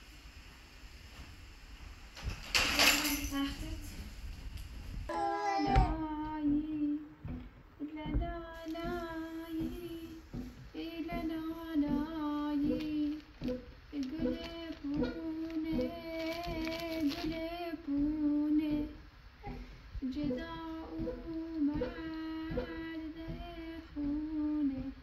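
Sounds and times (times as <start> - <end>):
woman singing a lullaby: 2.6 - 4.1, 5.1 - 25.0.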